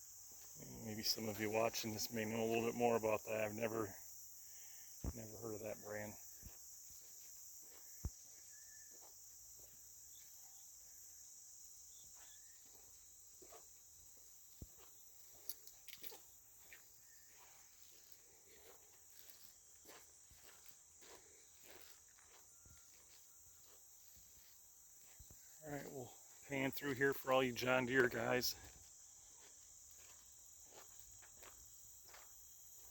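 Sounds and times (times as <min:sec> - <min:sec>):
crickets chirring: 0:00.0 - 0:32.9.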